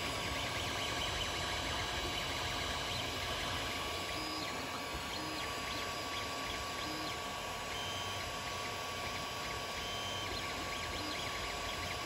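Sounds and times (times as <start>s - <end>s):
cooling fans whirring: 0.0s - 12.0s
stepper motor whines: 0.0s - 12.0s.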